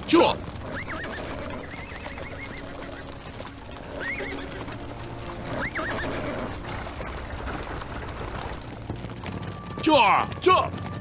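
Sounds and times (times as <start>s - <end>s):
hooves clip-clopping: 0.0s - 11.0s
horses whinnying: 0.0s - 11.0s.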